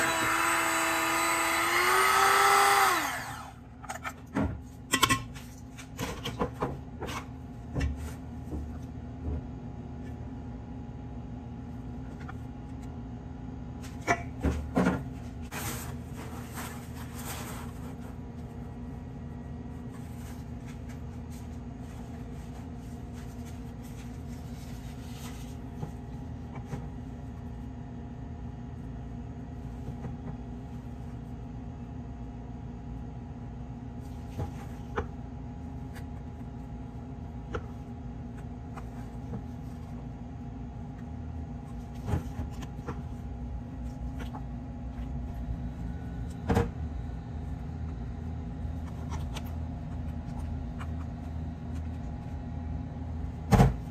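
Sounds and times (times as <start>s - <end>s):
low machine hum: 0.0s - 53.9s.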